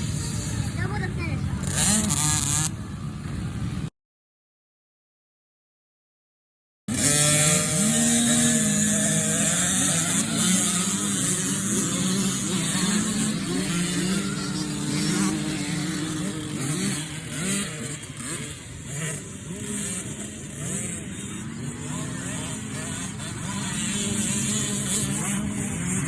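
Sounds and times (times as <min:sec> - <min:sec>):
dirt bike engines revving: 0:00.0 - 0:03.9, 0:06.9 - 0:26.0.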